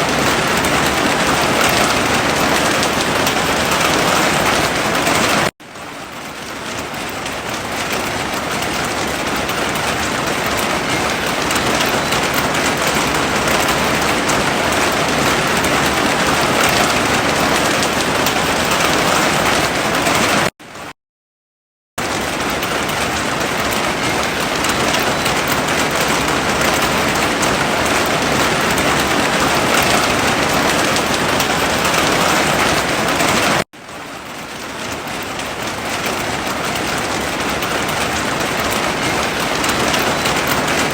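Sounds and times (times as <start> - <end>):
heavy rain: 0.0 - 20.9, 22.0 - 40.9.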